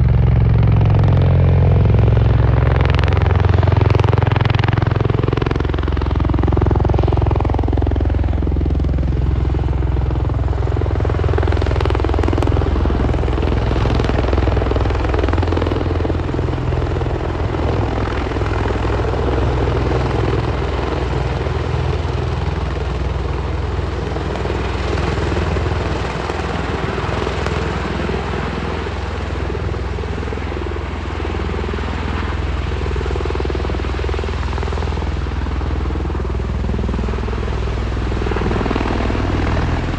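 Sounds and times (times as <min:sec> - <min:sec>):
rotor and engine drone: 0:00.0 - 0:39.9.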